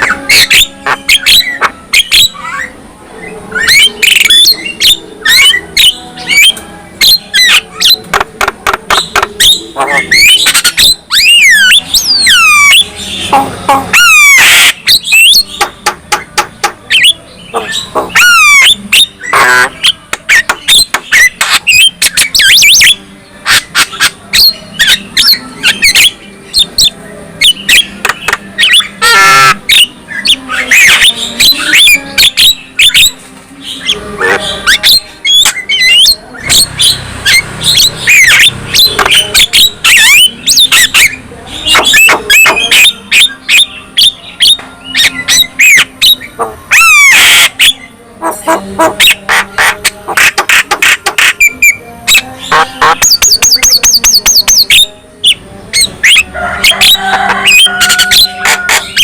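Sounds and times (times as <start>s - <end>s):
myna bird singing: 0.0s - 59.0s.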